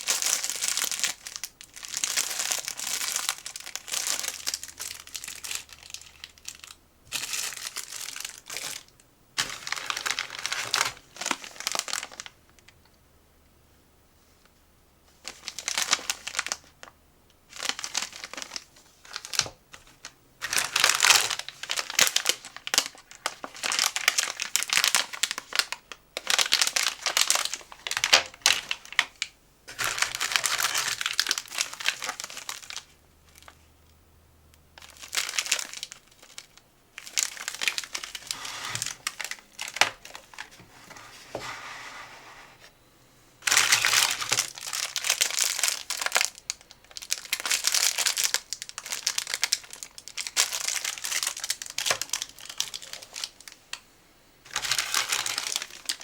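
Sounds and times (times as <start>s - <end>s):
plastic packaging crinkling: 0.0s - 12.8s, 15.2s - 16.9s, 17.5s - 33.7s, 34.8s - 41.5s, 43.4s - 53.8s, 54.5s - 56.0s.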